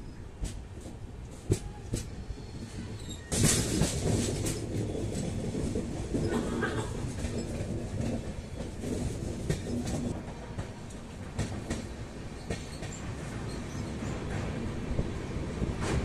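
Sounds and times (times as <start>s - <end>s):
train wheels rumbling on track: 0.0s - 16.0s
wheels clicking over rail joints: 2.7s - 16.0s.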